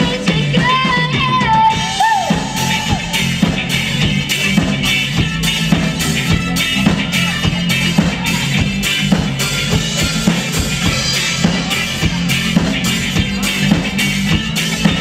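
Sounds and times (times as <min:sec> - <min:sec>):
drum kit beat: 0:00.0 - 0:15.0
sustained bass notes: 0:00.0 - 0:15.0.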